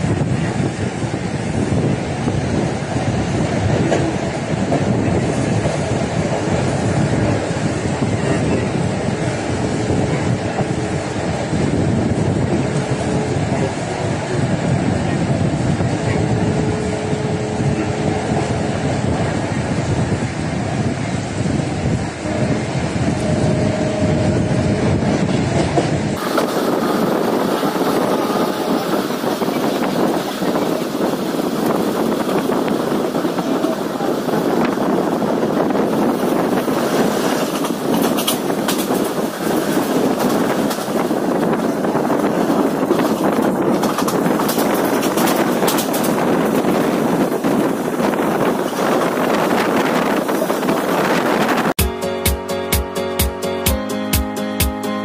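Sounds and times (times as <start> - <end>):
train wheels rumbling on rails: 0.0 - 51.8.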